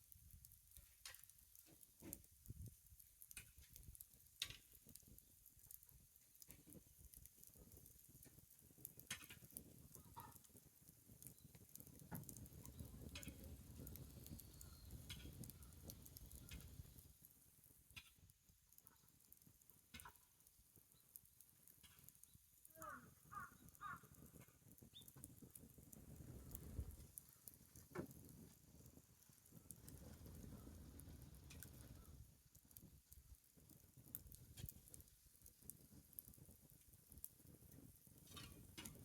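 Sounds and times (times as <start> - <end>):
bonfire crackling and popping: 0.0 - 39.0.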